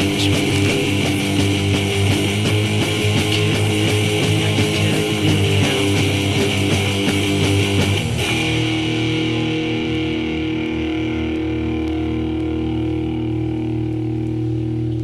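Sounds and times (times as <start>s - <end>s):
strummed electric guitar: 0.0s - 15.0s.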